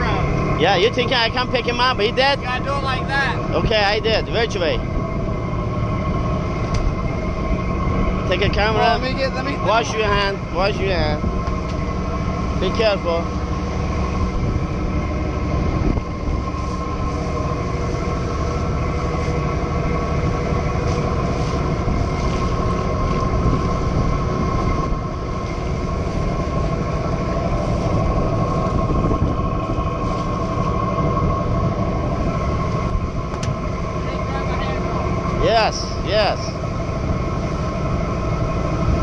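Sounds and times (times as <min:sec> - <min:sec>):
boat engine running: 0:00.0 - 0:39.0
water noise: 0:00.0 - 0:39.0
wind noise: 0:03.5 - 0:39.0.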